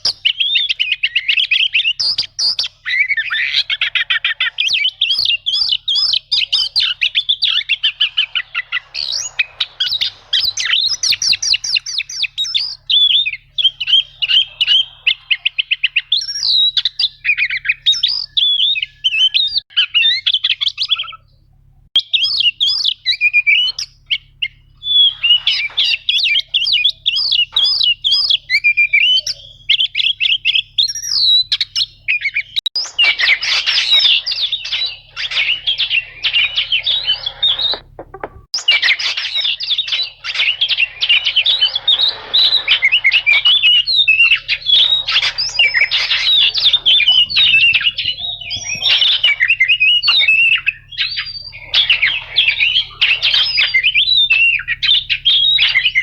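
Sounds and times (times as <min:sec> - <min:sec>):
bird singing trills and whistles: 0:00.0 - 0:21.4, 0:22.0 - 0:56.0.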